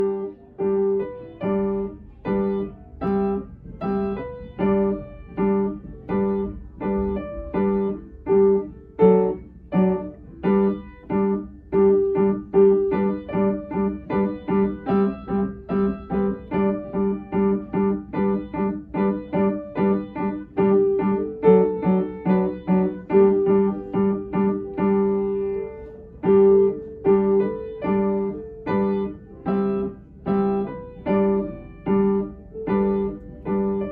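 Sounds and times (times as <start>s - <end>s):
piano melody: 0.0s - 33.9s.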